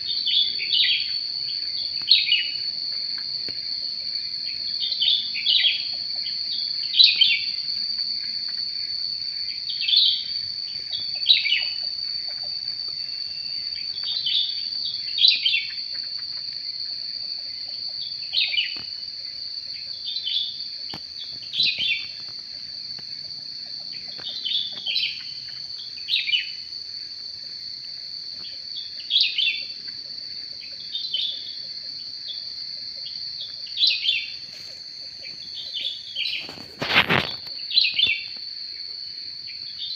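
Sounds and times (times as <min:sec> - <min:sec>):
bird chirps: 0:00.0 - 0:26.7, 0:28.4 - 0:38.4.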